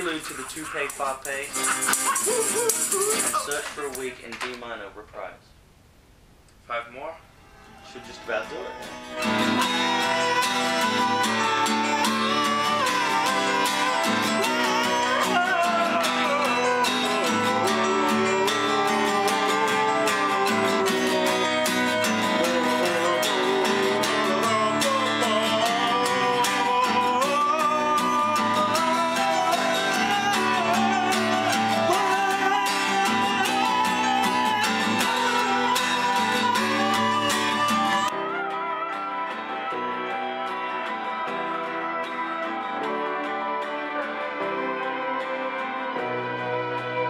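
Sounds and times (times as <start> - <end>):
man singing: 0.0 - 4.0, 8.7 - 44.0
acoustic guitar: 0.0 - 4.9, 6.6 - 47.0.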